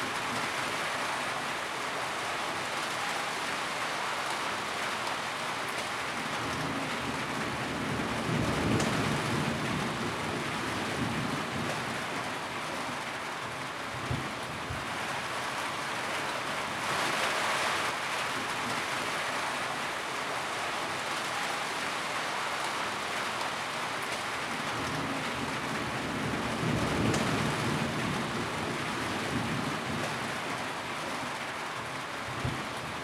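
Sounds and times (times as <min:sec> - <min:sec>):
heavy rain on a tin roof: 0:00.0 - 0:33.0.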